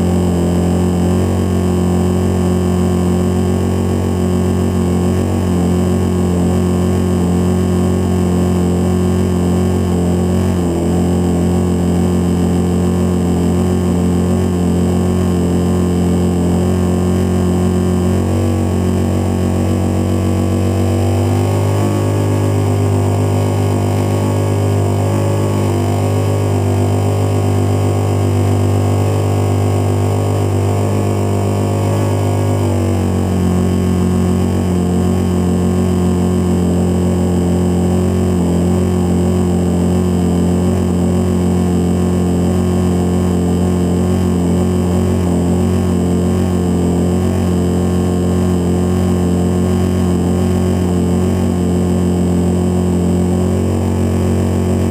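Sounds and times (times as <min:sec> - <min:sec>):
model plane engine running: 0:00.0 - 0:54.9.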